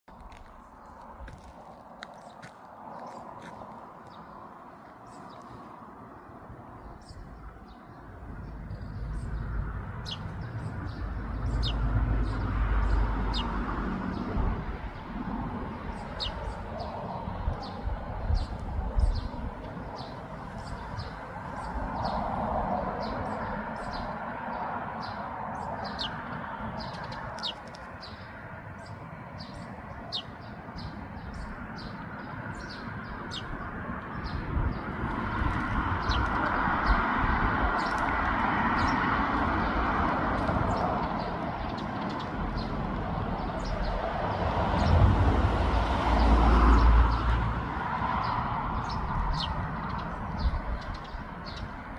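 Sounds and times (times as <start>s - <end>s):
sparrows chirping: 0.2s - 51.9s.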